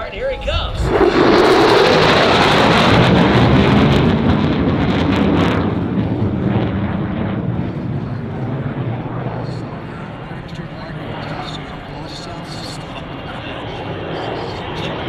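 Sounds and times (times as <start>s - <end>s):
jet engine roaring pass: 0.0s - 15.0s.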